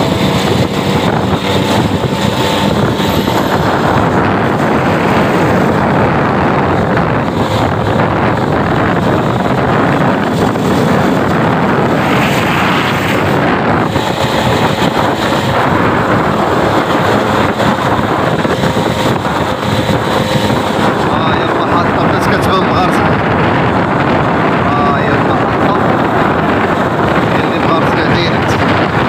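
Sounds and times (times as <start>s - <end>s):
motorbike engine hum: 0.0s - 29.0s
wind buffeting microphone: 0.0s - 29.0s.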